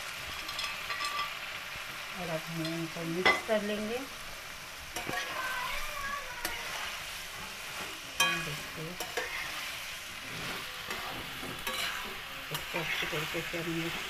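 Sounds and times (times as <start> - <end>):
food sizzling in hot oil: 0.0 - 14.0
spoon scraping a pan: 0.2 - 1.4, 2.6 - 3.7, 4.9 - 14.0.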